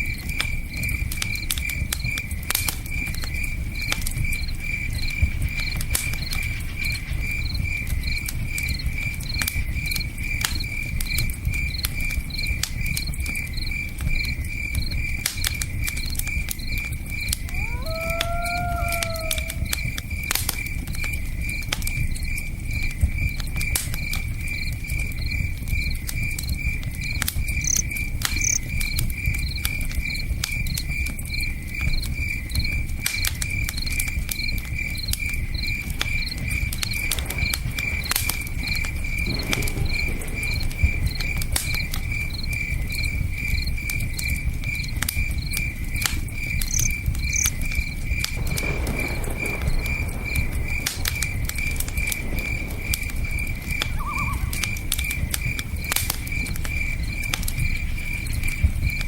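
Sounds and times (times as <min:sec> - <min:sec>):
campfire crackling: 0:00.0 - 0:59.0
crickets chirping: 0:00.0 - 0:59.0.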